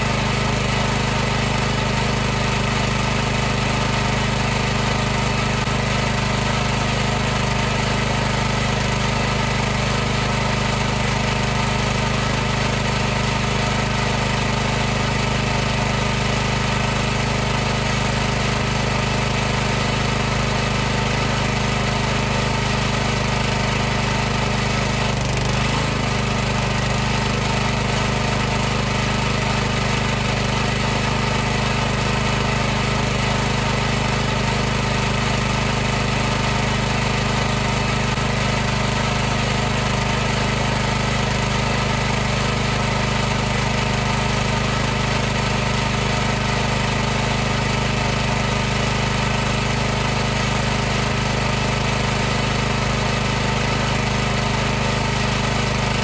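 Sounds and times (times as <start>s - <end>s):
pressure washer motor humming: 0.0s - 56.0s.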